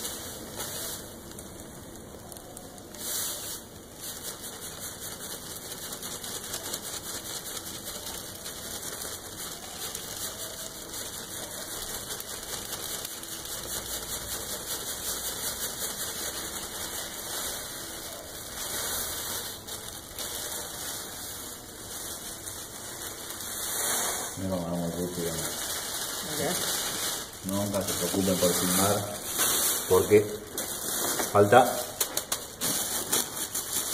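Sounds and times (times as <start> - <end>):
wet bag crinkling: 0.0 - 33.9.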